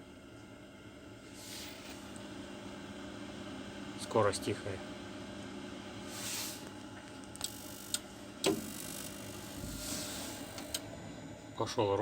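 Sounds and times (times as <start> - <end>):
boiler fan running: 0.0 - 12.0.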